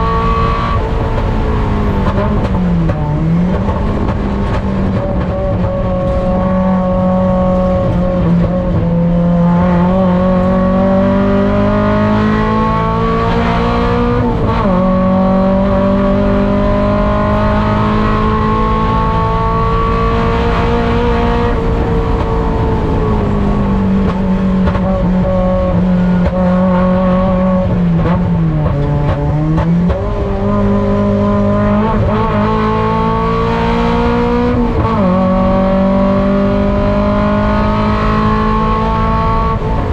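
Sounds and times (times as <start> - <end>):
engine blips on downshifts: 0.0 - 39.9
race car engine revving: 0.0 - 39.9.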